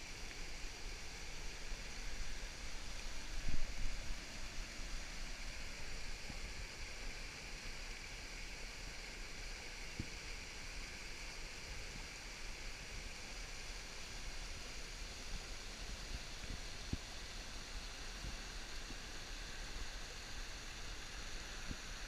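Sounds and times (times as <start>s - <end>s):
river water rushing over rapids: 0.0s - 22.0s.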